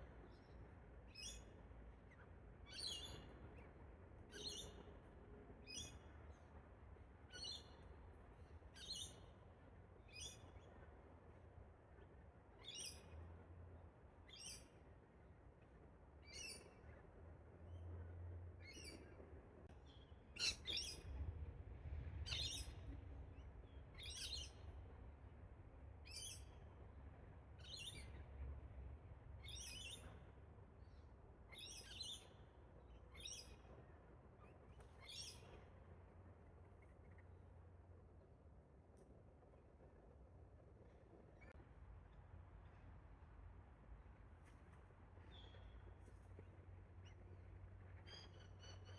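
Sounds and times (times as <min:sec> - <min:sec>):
faint low rumble: 0:00.0 - 0:48.9.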